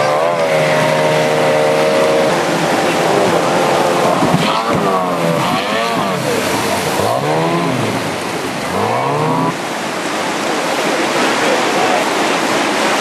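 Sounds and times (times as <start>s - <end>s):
outboard engine revving: 0.0s - 13.0s
white water rushing: 0.0s - 13.0s.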